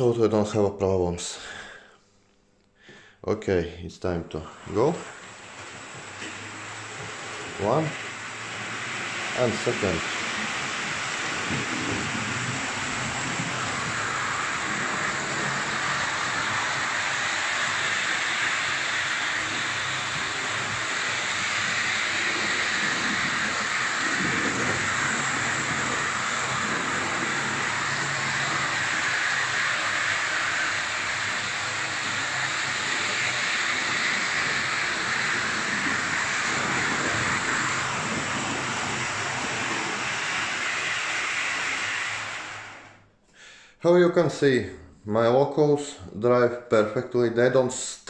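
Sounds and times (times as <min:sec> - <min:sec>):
model train motors whirring: 0:04.5 - 0:43.0.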